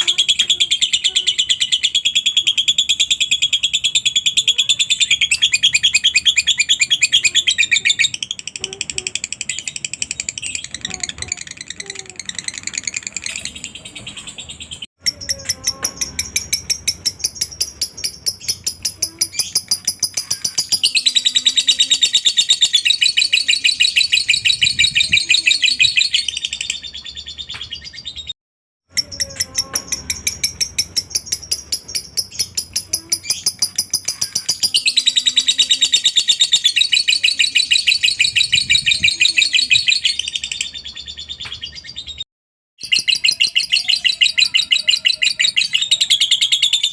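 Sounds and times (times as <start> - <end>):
bird chattering trill: 0.0 - 27.4, 28.9 - 41.8, 42.8 - 46.9.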